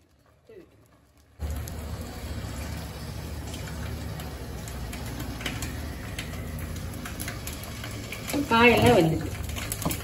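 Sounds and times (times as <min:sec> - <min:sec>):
low rumble from stove pot: 0:00.0 - 0:10.0.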